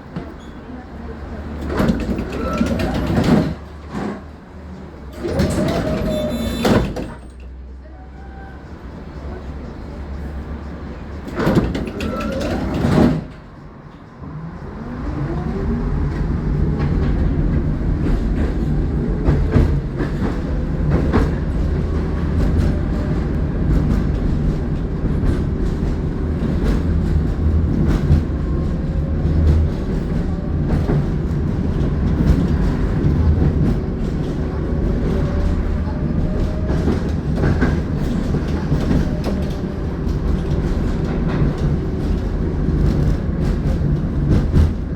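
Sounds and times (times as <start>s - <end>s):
wheels clacking over rail joints: 0.0s - 7.6s, 8.7s - 44.9s
tram running over rails: 0.0s - 44.9s.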